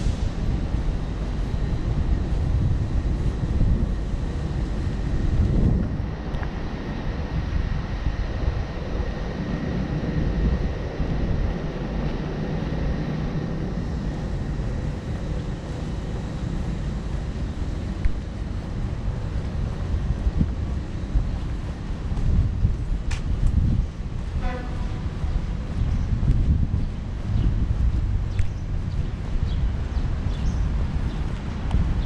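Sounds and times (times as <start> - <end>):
outdoor background hum: 0.0 - 32.0
wind buffeting microphone: 0.0 - 32.0.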